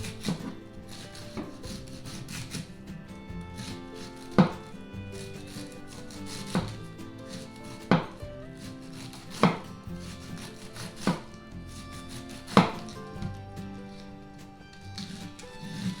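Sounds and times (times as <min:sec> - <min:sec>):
cabbage being struck: 0:00.0 - 0:14.0
soft background music: 0:00.0 - 0:16.0.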